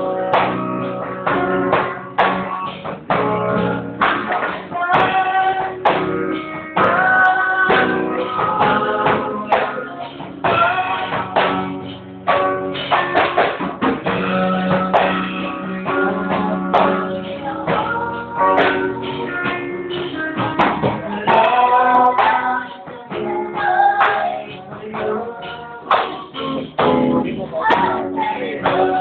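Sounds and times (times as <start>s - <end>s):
electric guitar: 0.0s - 29.0s
man singing into a microphone: 3.2s - 11.7s, 14.0s - 29.0s.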